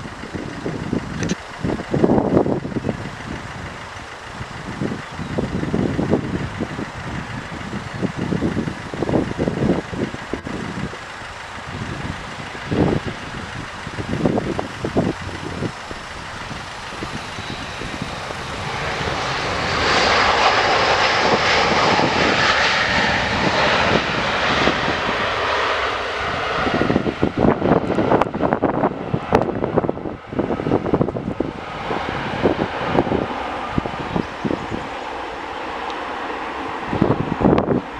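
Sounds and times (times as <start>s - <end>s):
airliner engines rushing: 0.0s - 37.9s
wind buffeting microphone: 0.0s - 37.9s.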